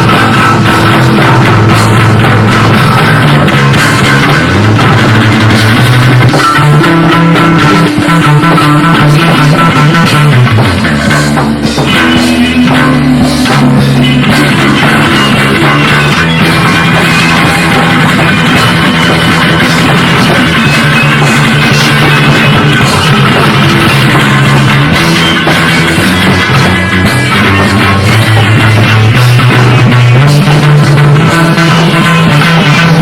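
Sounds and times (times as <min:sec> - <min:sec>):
bass line: 0:00.0 - 0:33.0
drum kit: 0:00.0 - 0:33.0
electric guitar: 0:00.0 - 0:33.0.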